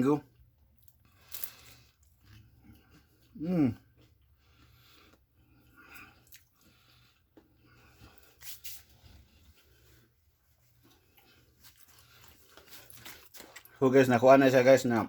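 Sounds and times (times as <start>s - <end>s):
person chewing food: 0.3s - 13.8s.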